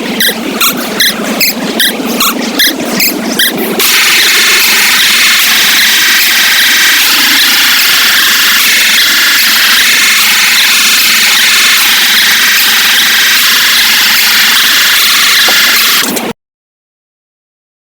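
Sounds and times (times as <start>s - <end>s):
loud harsh static noise: 0.0s - 16.4s.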